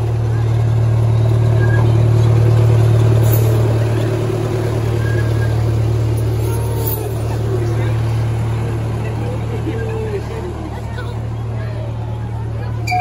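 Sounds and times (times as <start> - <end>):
miniature train engine droning: 0.0 - 13.0.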